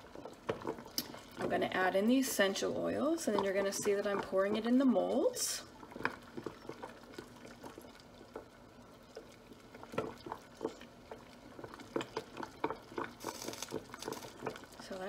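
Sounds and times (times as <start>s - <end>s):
water simmering: 0.0s - 15.0s.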